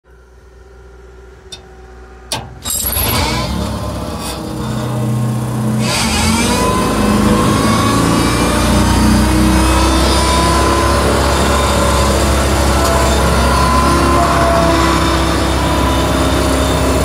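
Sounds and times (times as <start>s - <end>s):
rising whine: 0.1s - 17.0s
diesel engine revving: 2.3s - 17.0s.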